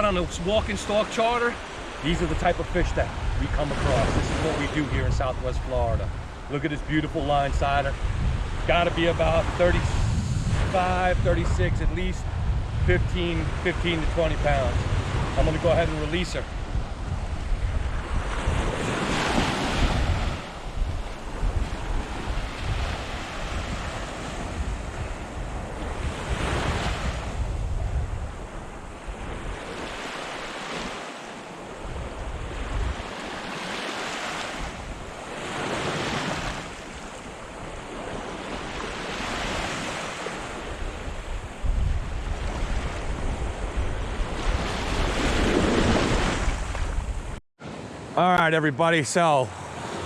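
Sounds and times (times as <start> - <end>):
surf washing onto beach: 0.0 - 50.0
wind buffeting microphone: 2.2 - 30.5, 31.6 - 33.5, 34.5 - 47.4.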